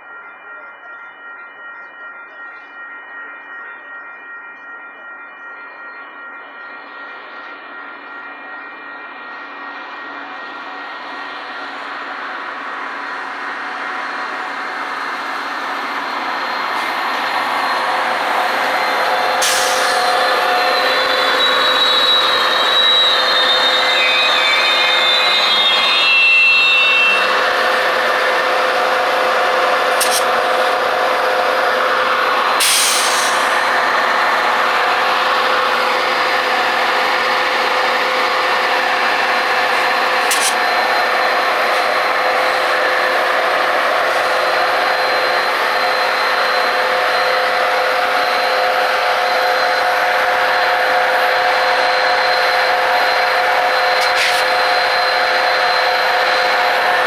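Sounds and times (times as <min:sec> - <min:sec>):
diesel locomotive engines running: 0:00.0 - 0:57.0.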